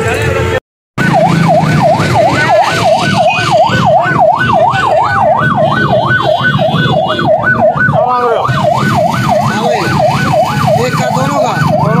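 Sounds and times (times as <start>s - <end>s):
electronic siren yelping: 1.0s - 12.0s.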